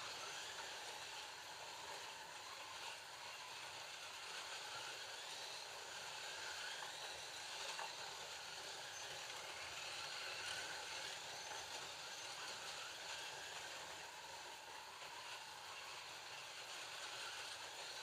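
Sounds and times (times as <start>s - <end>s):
small electric motors whirring: 0.0s - 18.0s
tyres hissing on track: 0.0s - 18.0s.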